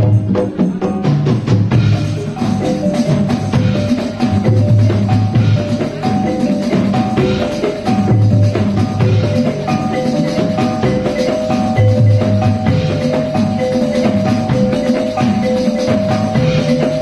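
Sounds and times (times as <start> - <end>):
metallophones ringing melody: 0.0 - 17.0.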